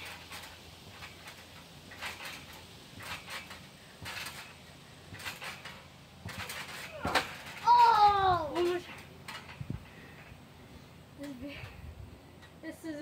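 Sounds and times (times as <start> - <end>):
trampoline springs and mat landing: 0.0 - 13.0.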